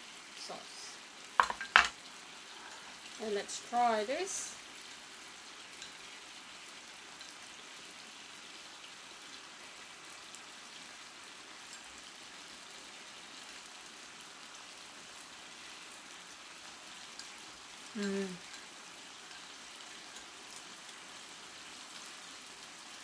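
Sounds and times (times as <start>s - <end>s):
pork sizzling in a frying pan: 0.0s - 23.0s.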